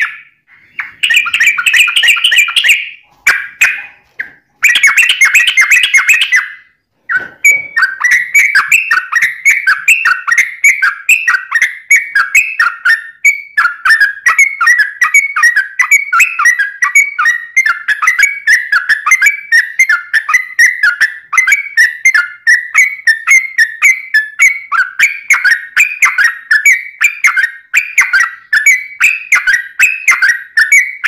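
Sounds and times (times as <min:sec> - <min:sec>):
bird singing whistled notes: 0:00.0 - 0:31.0.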